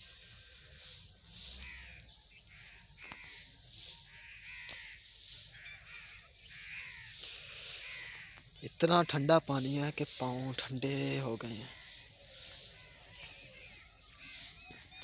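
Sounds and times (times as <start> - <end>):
feet swishing through wet grass: 0.8 - 8.6, 9.5 - 15.0.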